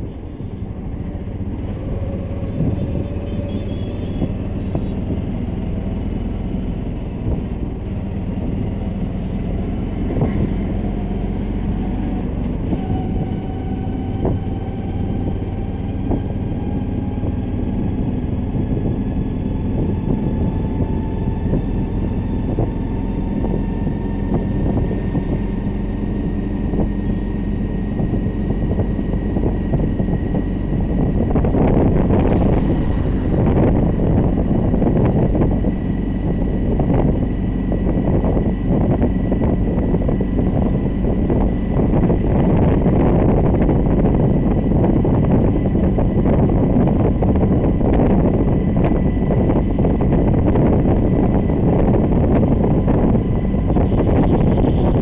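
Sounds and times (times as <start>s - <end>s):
engine and road rumble: 0.0s - 55.0s
thin rising whine: 7.8s - 55.0s.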